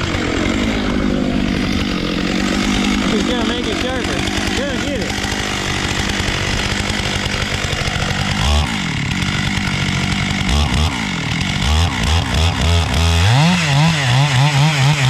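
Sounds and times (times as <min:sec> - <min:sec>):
two-stroke chainsaw revving: 0:00.0 - 0:15.0.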